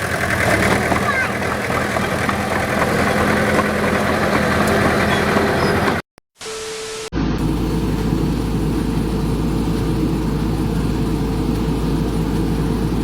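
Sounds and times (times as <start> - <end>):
vehicle engine rumbling: 0.0 - 6.1, 7.2 - 13.0.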